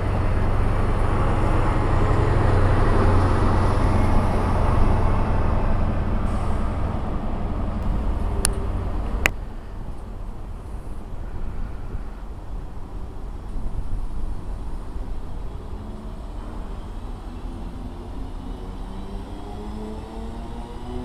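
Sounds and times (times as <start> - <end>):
train passing with wheel noise: 0.0 - 21.0.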